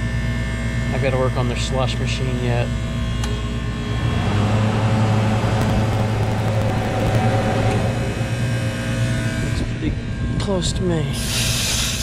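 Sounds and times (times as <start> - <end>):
compressor humming with fan whirring: 0.0 - 12.0.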